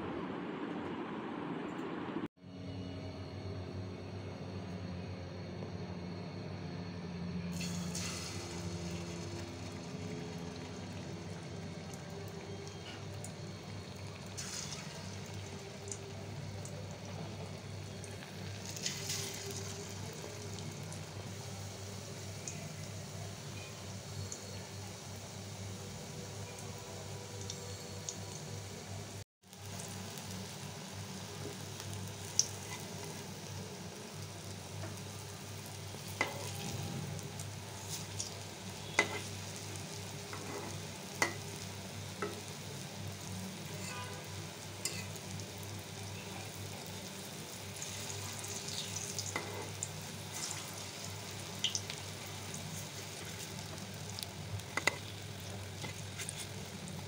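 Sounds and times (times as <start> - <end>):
food deep-frying in oil: 7.5 - 57.0.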